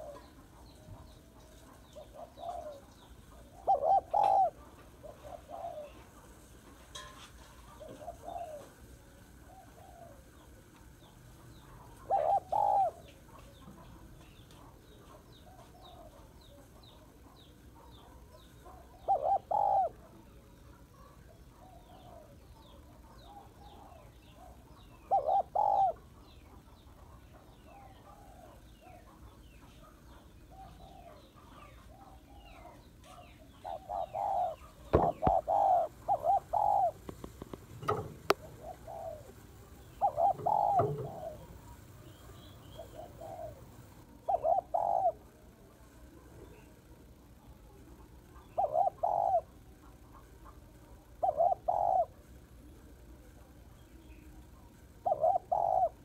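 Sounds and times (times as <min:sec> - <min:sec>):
dove cooing: 0:00.0 - 0:45.4, 0:47.7 - 0:52.3, 0:55.0 - 0:56.0
small birds chirping faintly: 0:00.0 - 0:56.0.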